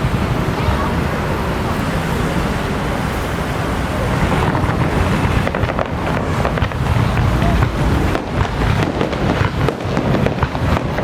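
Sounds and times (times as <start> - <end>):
firecracker-like cracks: 0.0 - 11.0
rumble of street procession: 0.0 - 11.0.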